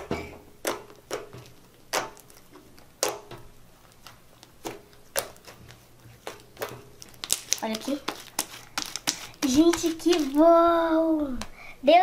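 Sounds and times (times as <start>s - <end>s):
slime squelching and popping: 0.0s - 10.6s.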